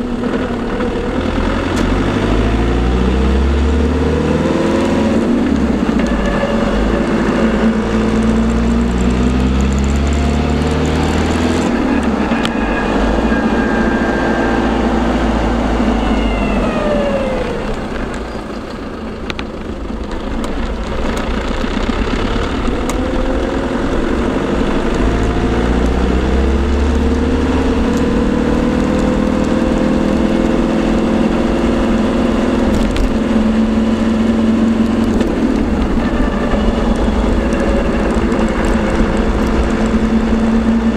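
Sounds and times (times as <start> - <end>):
engine and road noise: 0.0 - 40.9
gearbox whining: 0.0 - 40.9.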